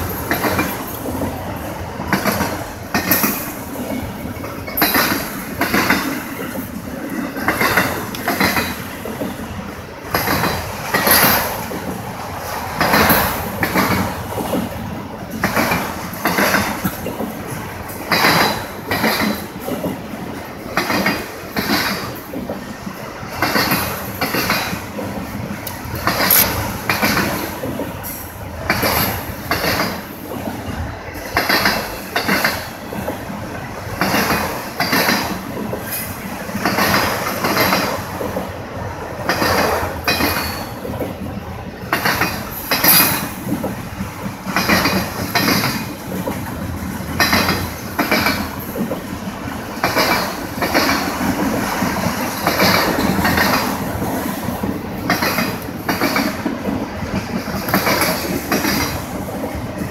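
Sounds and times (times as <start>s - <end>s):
train rumble: 0.0s - 59.9s
train wheels clacking over rail joints: 0.0s - 59.9s.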